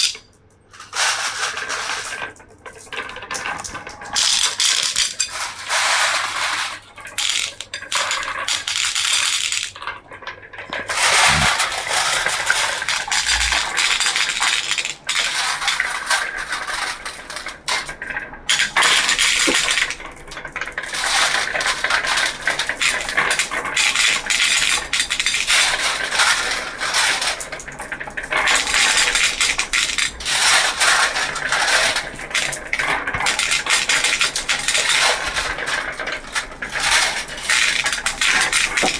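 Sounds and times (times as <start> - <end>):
marbles clattering down track: 0.0 - 38.9.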